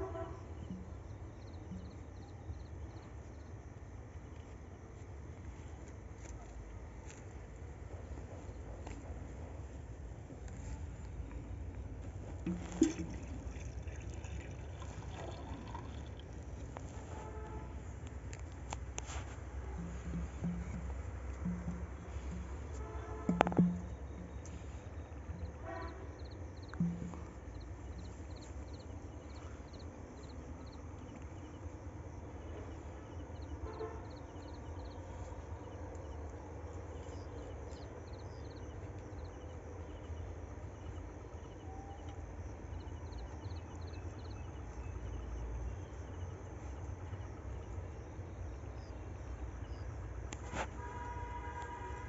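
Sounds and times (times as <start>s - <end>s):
insects chirping: 0.0s - 6.0s, 7.0s - 52.0s.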